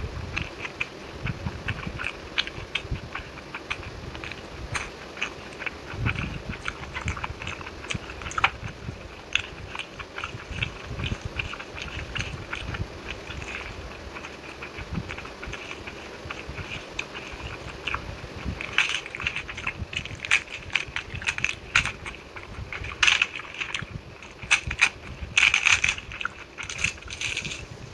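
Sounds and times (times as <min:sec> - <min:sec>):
chewing and lip-smacking: 0:00.0 - 0:27.9.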